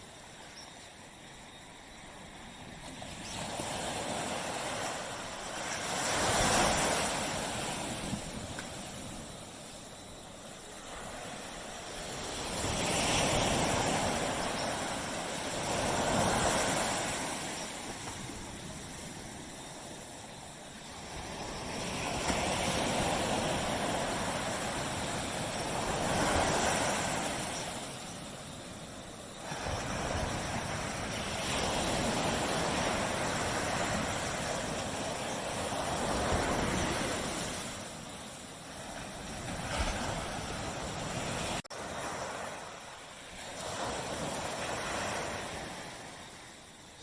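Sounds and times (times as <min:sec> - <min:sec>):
small waves breaking on sand: 0:00.0 - 0:47.0.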